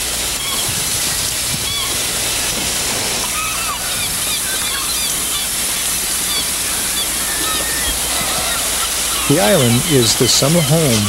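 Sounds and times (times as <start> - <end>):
sea washing against rocks: 0.0 - 11.0
seabirds calling: 0.0 - 11.0
steady low hum: 0.0 - 11.0.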